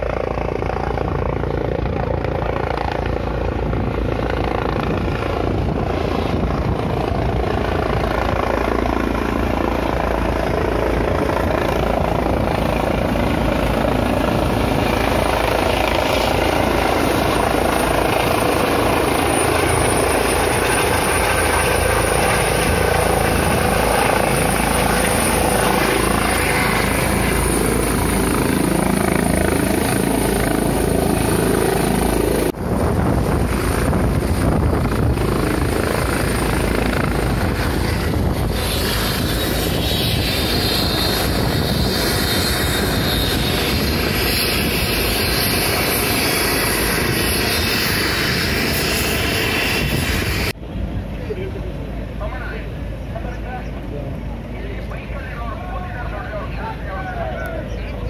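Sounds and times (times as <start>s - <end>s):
helicopter rotor and engine noise: 0.0s - 58.0s
high turbine whine: 0.0s - 58.0s.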